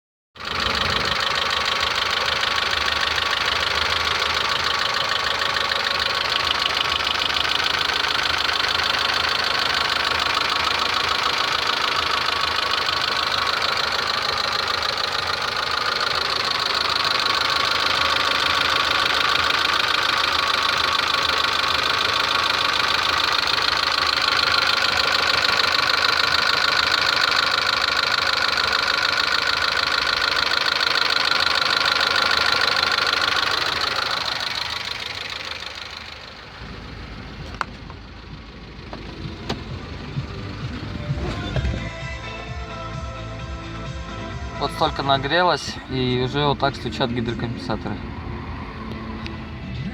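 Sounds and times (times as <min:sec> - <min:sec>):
car engine idling: 0:00.3 - 0:49.9
engine lifters tapping: 0:00.4 - 0:49.9.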